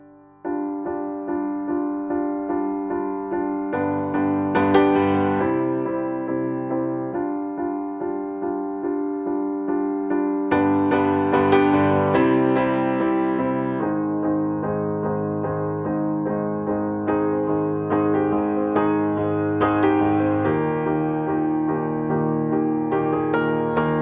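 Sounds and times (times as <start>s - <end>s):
piano playing repeated notes: 0.0s - 24.0s.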